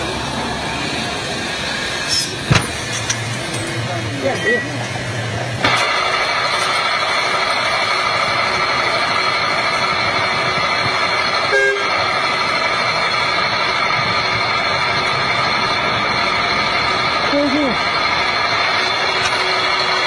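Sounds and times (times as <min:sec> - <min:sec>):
drill rig whining: 0:00.0 - 0:20.0.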